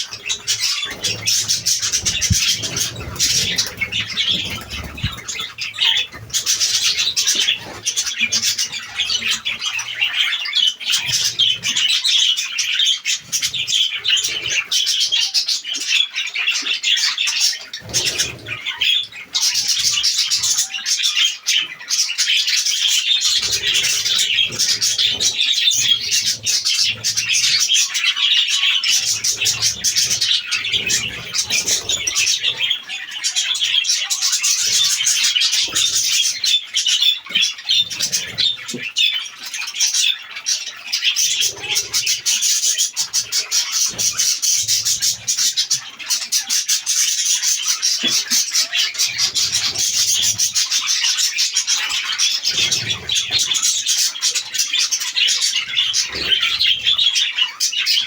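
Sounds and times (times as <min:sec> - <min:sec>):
parrots chattering and chirping: 0:00.0 - 0:58.0.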